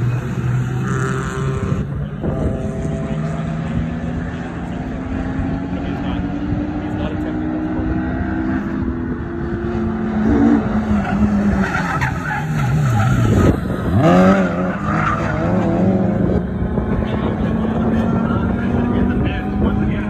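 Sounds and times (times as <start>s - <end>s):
drone of cars on track: 0.0s - 20.0s.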